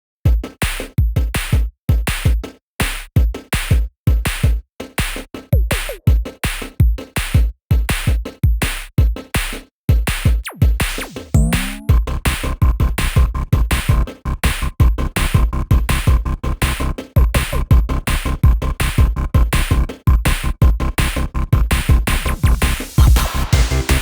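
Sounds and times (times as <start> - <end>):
electronic music with drum-machine beat: 0.3 - 24.0.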